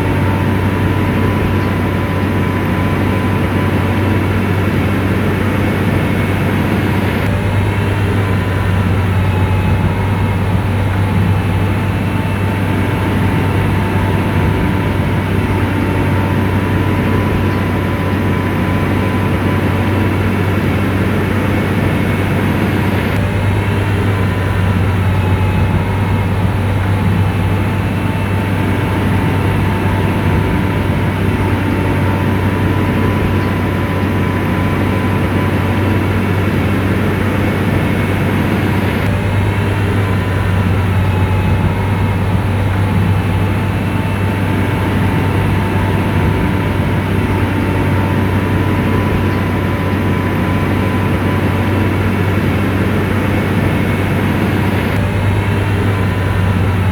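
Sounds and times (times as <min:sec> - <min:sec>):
diesel engine running under load: 0:00.0 - 0:56.9
faint whine: 0:00.0 - 0:56.9.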